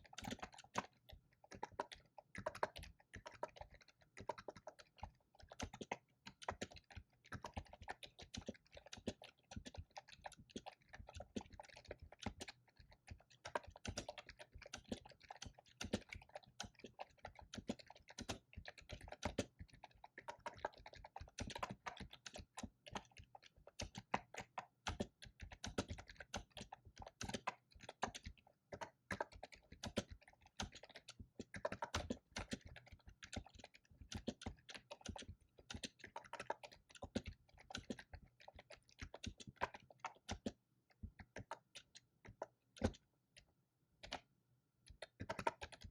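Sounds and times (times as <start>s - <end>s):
fast typing on keyboard: 0.0s - 43.0s, 44.9s - 45.9s.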